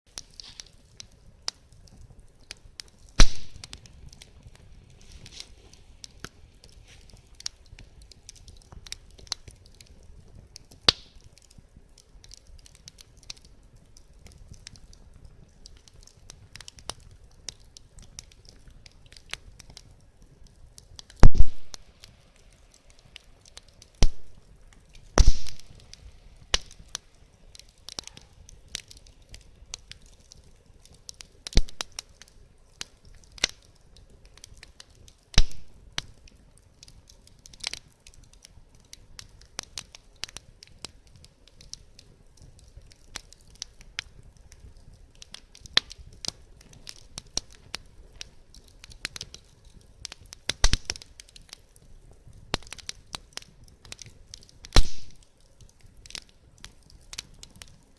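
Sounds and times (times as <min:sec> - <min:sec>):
wood fire crackling and popping: 0:00.1 - 0:57.9.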